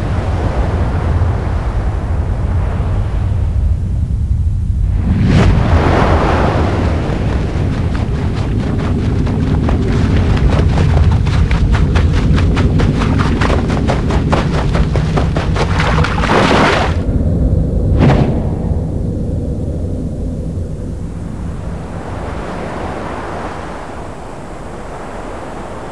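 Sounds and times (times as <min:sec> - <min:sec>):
loud low rumble: 0:00.0 - 0:16.4, 0:17.0 - 0:24.8.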